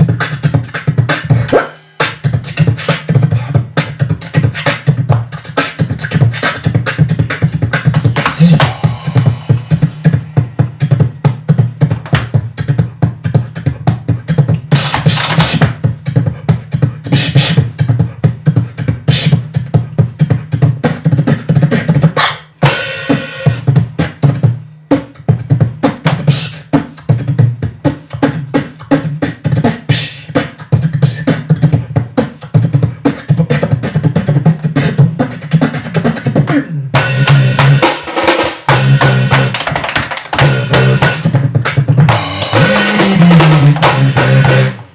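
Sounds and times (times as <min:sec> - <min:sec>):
beatboxing: 0:00.0 - 0:44.9
drum kit groove: 0:00.0 - 0:44.9.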